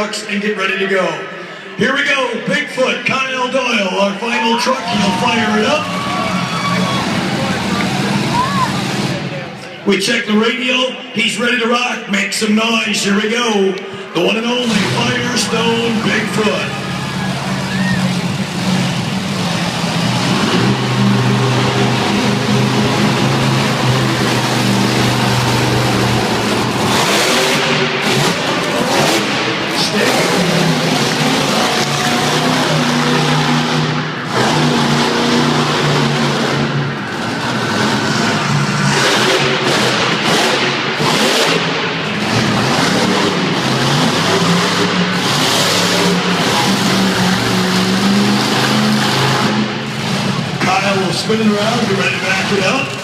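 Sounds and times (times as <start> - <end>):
monster truck engine revving: 0.0 - 53.0.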